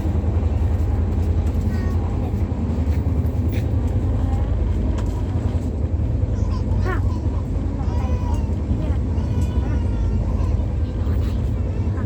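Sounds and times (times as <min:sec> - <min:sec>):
faint voices: 0:00.0 - 0:12.0
train rumbling inside carriage: 0:00.0 - 0:12.0.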